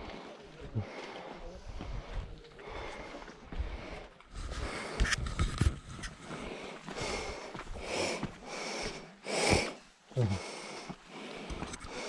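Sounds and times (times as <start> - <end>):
breathing through respirator: 0.0 - 5.0, 6.3 - 12.0.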